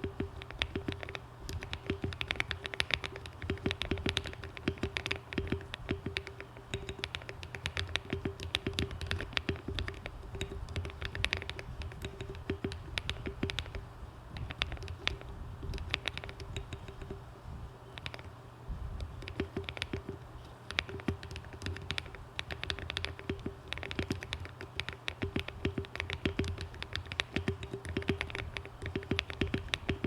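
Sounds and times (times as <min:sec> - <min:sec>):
mechanical keyboard typing: 0:00.0 - 0:18.4, 0:19.0 - 0:30.0.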